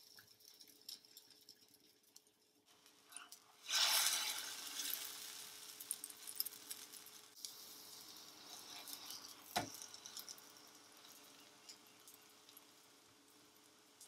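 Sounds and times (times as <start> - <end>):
pancake sizzling in a pan: 0.0 - 14.0.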